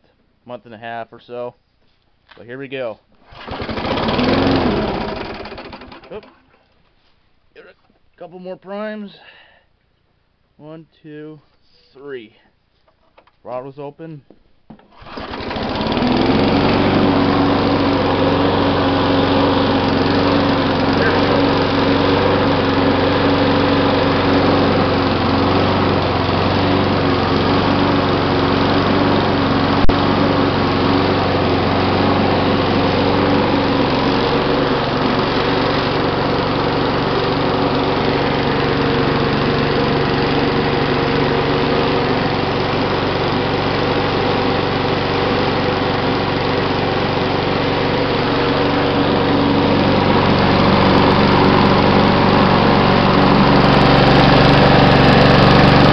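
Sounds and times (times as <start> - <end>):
lawn mower engine running: 3.2 - 6.8, 14.7 - 55.9.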